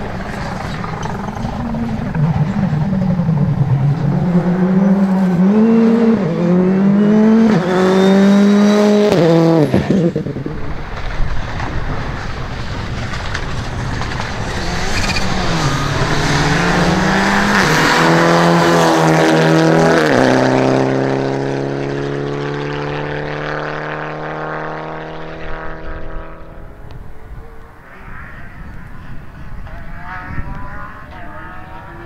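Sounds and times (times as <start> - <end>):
rally car engine accelerating: 0.0 - 32.0.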